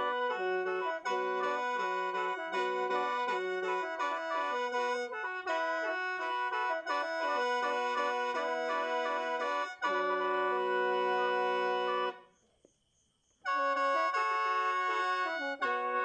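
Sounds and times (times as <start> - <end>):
mouth organ playing chords: 0.0 - 12.2, 13.5 - 16.0.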